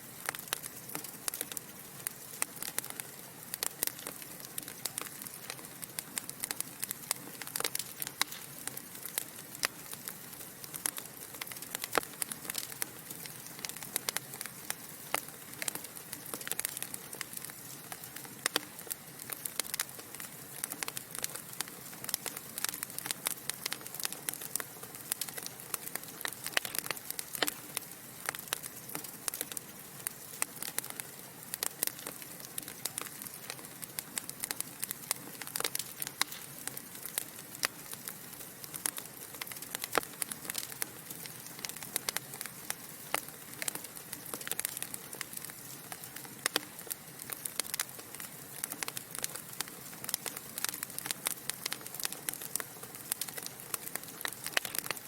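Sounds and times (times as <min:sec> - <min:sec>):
fire hissing softly: 0:00.0 - 0:55.0
logs crackling and popping: 0:00.0 - 0:55.0.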